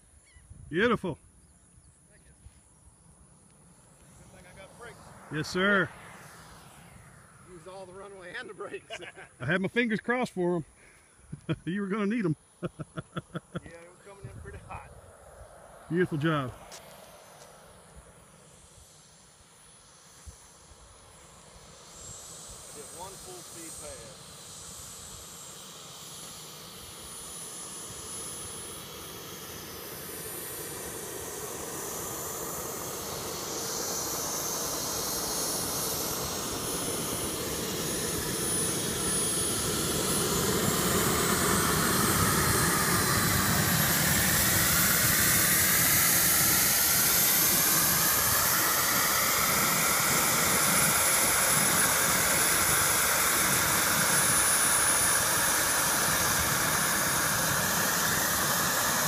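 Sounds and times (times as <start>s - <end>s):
model jet turbine whining: 3.0s - 12.6s, 13.7s - 59.0s.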